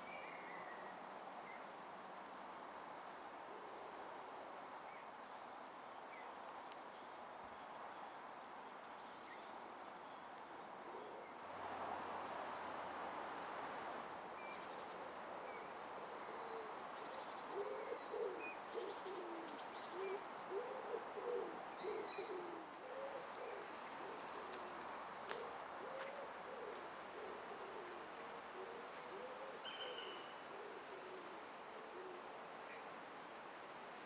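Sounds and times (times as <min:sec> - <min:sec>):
background hiss: 0:00.0 - 0:34.0.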